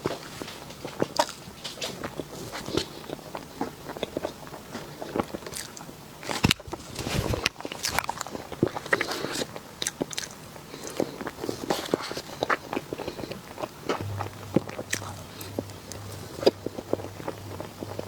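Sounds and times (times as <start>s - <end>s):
biting and chewing: 0.0s - 18.0s.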